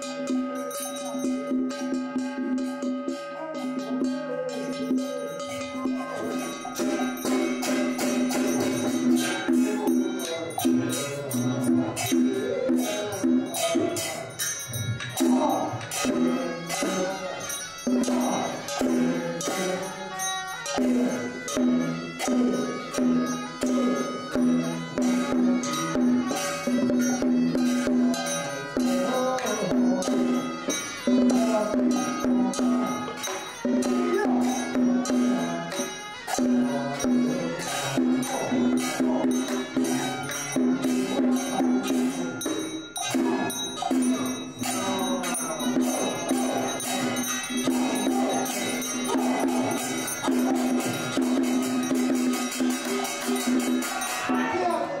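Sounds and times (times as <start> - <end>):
regular percussion beat: 0.0 - 55.0
ringing metal percussion: 0.0 - 55.0.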